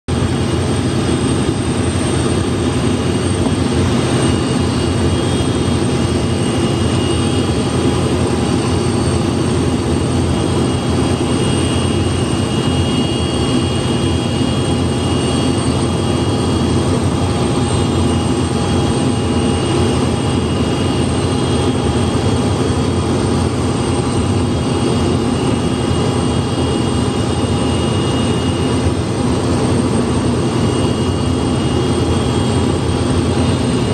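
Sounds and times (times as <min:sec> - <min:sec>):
turbine rumble with high whine: 0:00.1 - 0:33.9.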